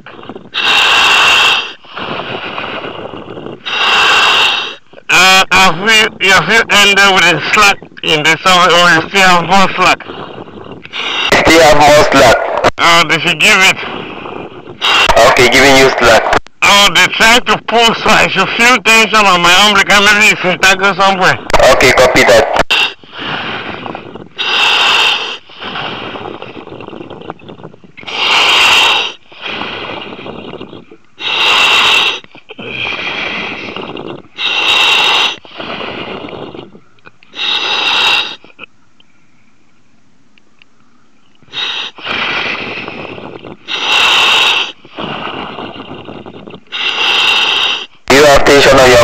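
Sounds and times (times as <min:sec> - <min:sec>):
diver breathing over radio: 0:00.0 - 0:05.9, 0:08.4 - 0:17.3, 0:18.1 - 0:38.7, 0:41.0 - 0:49.0.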